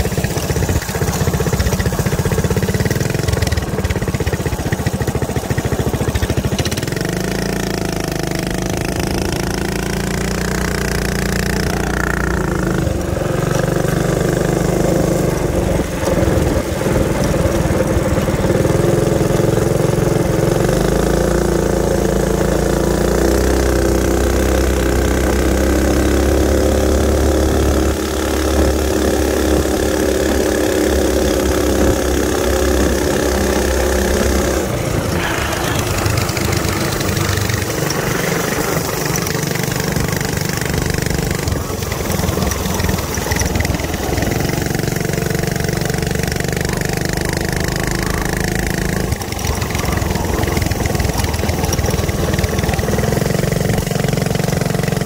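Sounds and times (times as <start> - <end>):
small gas engine running: 0.0 - 55.0.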